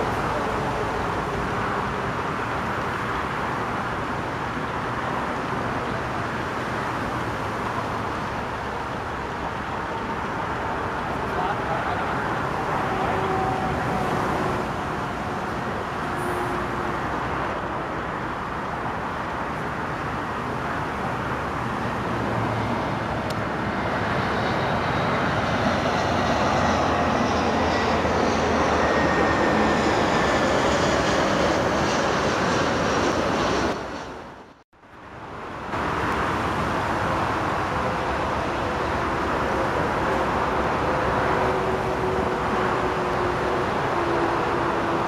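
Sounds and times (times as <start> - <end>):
landing airliner jet whine: 0.0 - 34.6, 35.2 - 45.0
roar of jet and traffic noise: 0.0 - 45.0.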